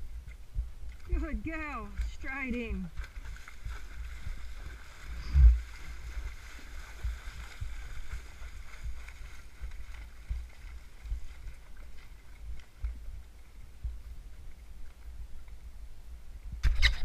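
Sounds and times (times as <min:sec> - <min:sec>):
hooves splashing through mud: 0:00.0 - 0:16.8
low thuds of hoofbeats: 0:00.0 - 0:16.8.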